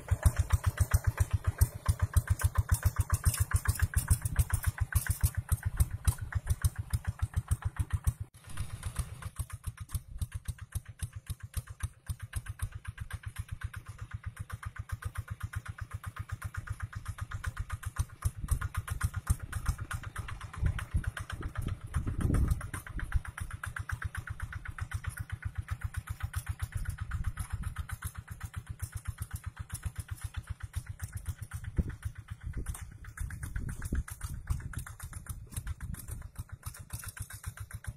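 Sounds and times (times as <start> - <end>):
diesel tractor engine running: 0.0 - 37.9.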